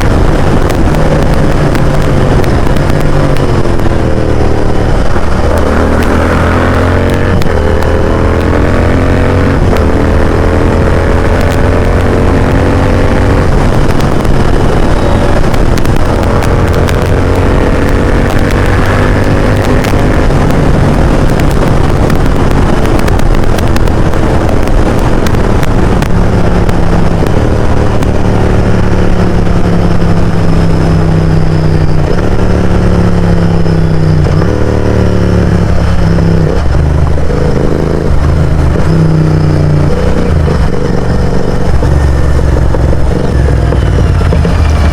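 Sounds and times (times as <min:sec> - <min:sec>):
loud motorcycle engine revving: 0:00.0 - 0:44.9.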